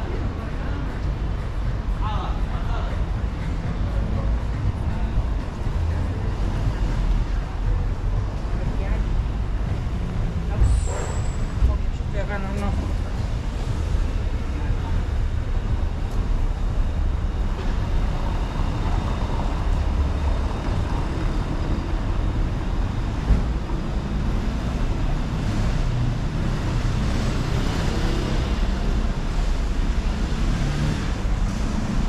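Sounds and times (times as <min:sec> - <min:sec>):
city noise: 0:00.0 - 0:32.0
passing cars rumbling: 0:00.0 - 0:32.0.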